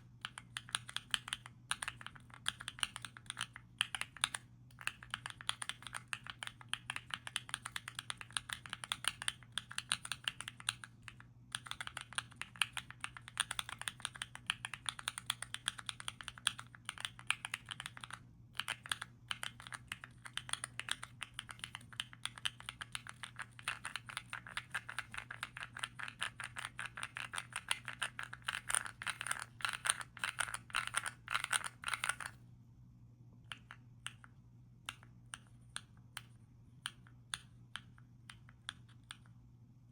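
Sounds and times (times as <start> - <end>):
faint low hum: 0.0 - 39.9
mechanical keyboard typing: 0.2 - 32.4.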